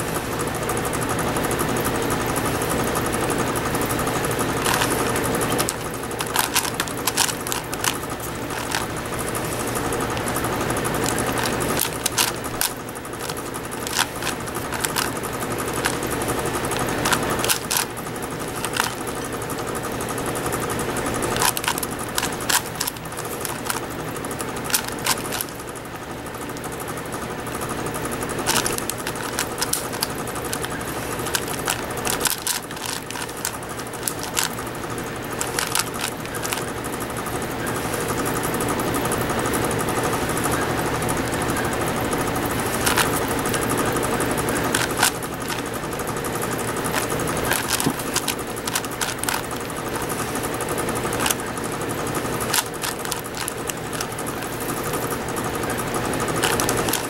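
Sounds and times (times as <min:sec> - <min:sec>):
steady low hum: 0:00.0 - 0:57.0
puzzle cube clicking: 0:02.8 - 0:19.8, 0:20.5 - 0:25.7, 0:27.9 - 0:38.5, 0:41.7 - 0:57.0.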